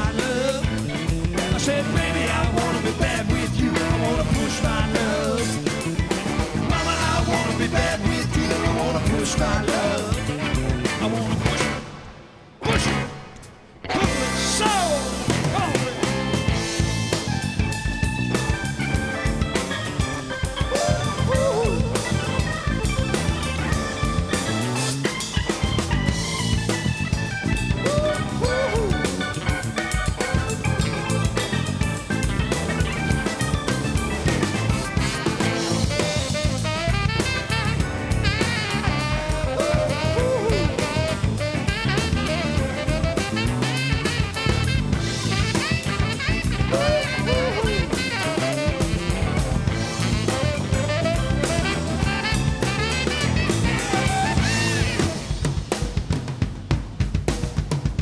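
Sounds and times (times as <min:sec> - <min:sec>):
drum kit beat: 0:00.0 - 0:12.0, 0:12.8 - 0:58.0
rock band playing: 0:00.0 - 0:58.0.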